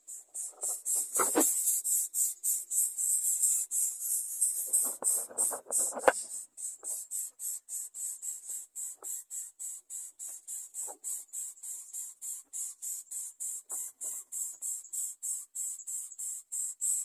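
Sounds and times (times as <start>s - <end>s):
rhythmic high-pitched chirping: 0.0s - 17.0s.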